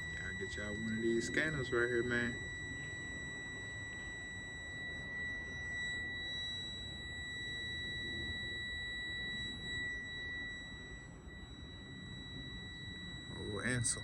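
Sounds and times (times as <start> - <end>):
high-pitched electronic buzzer tone: 0.0 - 14.0.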